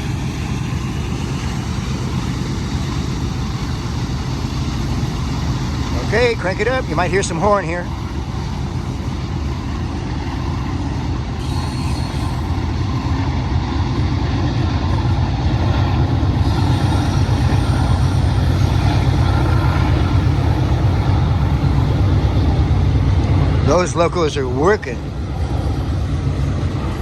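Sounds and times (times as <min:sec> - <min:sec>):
diesel locomotive engine rumble: 0:00.0 - 0:27.0.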